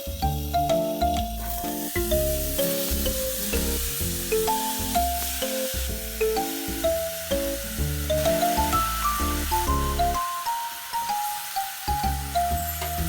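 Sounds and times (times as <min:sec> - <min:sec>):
background music melody: 0:00.0 - 0:13.0
food sizzling in a frying pan: 0:00.0 - 0:13.0.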